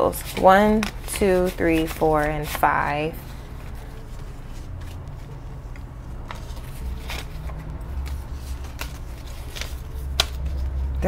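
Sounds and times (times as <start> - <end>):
banknotes rustling: 0.0 - 11.0
low steady hum: 0.0 - 11.0.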